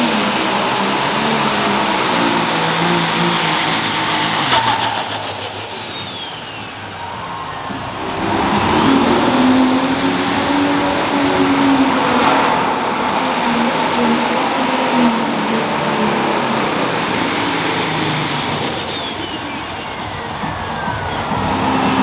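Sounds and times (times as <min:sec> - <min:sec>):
diesel engine under full load: 0:00.0 - 0:22.0.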